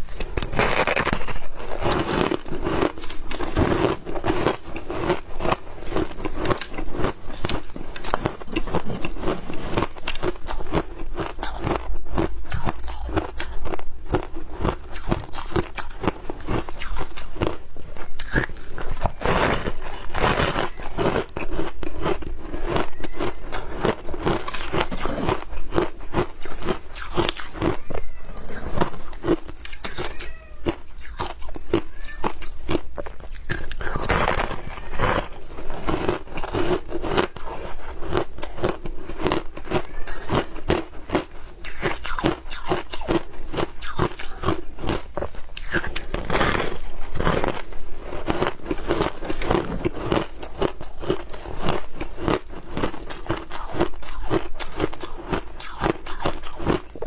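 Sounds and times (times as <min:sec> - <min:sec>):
shaved ice crunching: 0:00.0 - 0:56.9.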